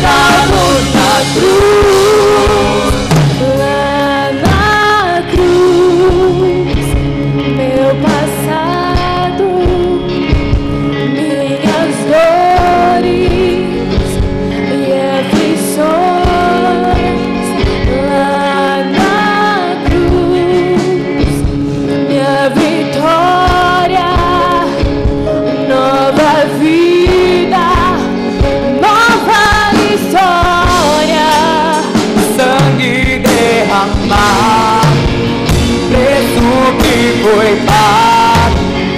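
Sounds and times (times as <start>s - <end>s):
man singing: 0.0s - 7.0s, 11.0s - 21.4s, 22.0s - 38.9s
band playing worship song: 0.0s - 38.9s
woman singing: 0.0s - 38.9s.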